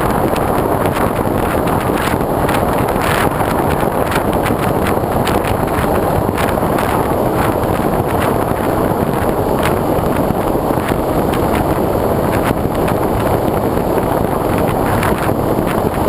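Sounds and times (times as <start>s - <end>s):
wind buffeting crackles: 0.0s - 16.0s
wind rushing over microphone: 0.0s - 16.0s.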